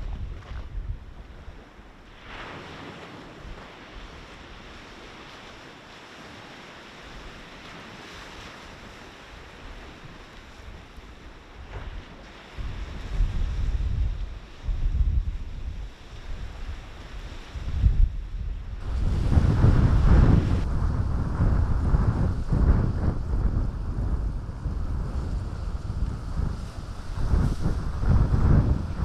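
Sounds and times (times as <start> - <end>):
wind buffeting microphone: 0.0 - 5.6, 7.1 - 29.0
sea waves washing on shore: 0.0 - 29.0.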